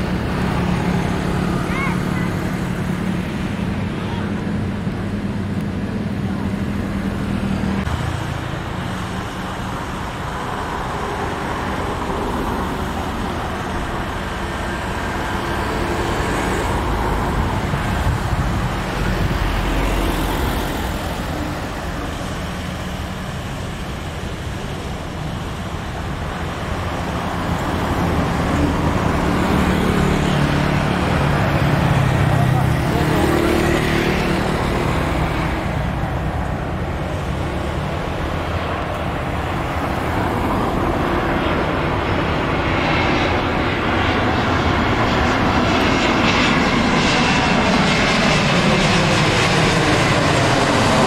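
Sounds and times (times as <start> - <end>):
engine roar: 0.0 - 51.0.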